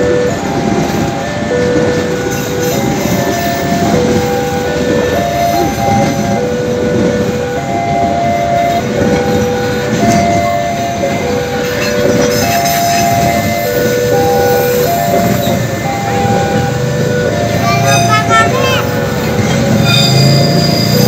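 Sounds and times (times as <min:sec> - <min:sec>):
level crossing warning alarm: 0:00.0 - 0:21.0
train wheels rumbling on rail: 0:00.0 - 0:21.0.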